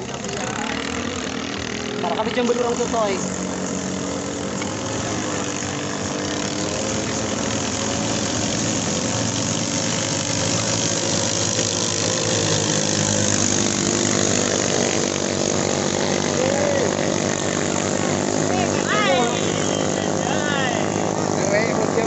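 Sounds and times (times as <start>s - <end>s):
boat engines high-revving drone: 0.0s - 22.0s.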